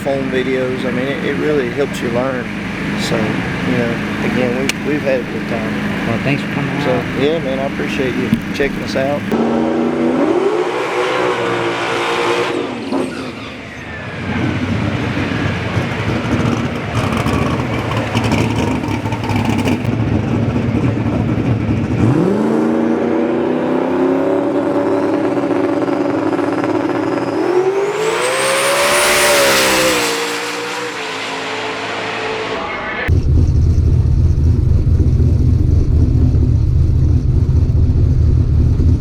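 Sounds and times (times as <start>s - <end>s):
drag racing car engine revving: 0.0s - 39.0s.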